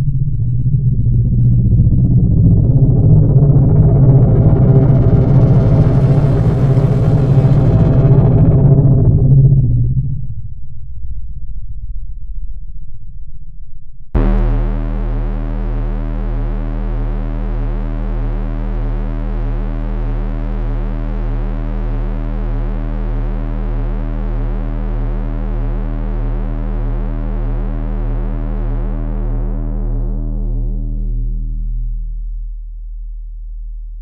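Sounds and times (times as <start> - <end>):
deep synthesizer drone: 0.0 - 10.6, 14.2 - 32.7
low rumble: 0.0 - 34.0.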